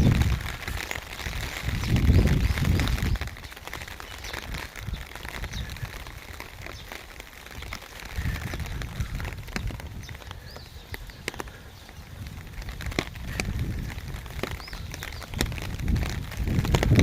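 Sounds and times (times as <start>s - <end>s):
raindrops on umbrella: 0.0s - 17.0s.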